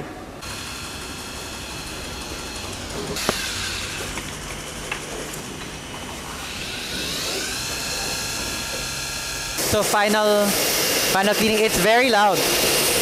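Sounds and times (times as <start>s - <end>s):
factory machinery whining: 0.0s - 13.0s
winding machine spindles spinning up: 0.4s - 5.1s, 5.8s - 13.0s.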